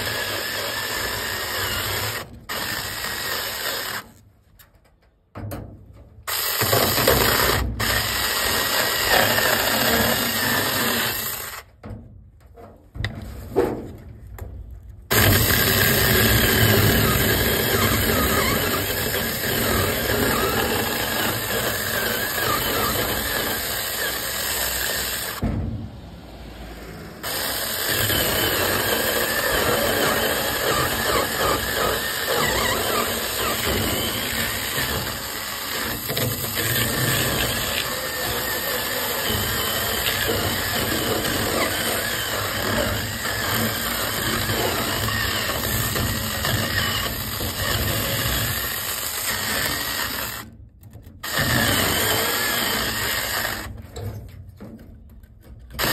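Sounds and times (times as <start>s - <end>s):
chainsaw cutting wood: 0.0s - 4.2s, 6.3s - 11.7s, 15.1s - 25.4s, 26.8s - 50.6s, 51.2s - 53.8s.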